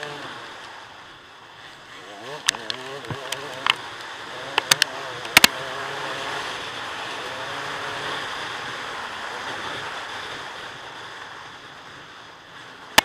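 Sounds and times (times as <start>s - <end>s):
dirt bike engine running: 1.5s - 13.0s.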